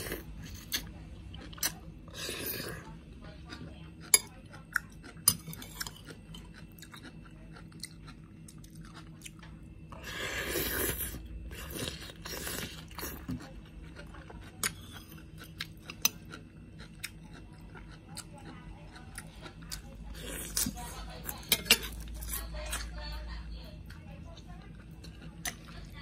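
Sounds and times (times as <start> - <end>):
person chewing and crunching: 0.0 - 22.9, 23.8 - 26.0.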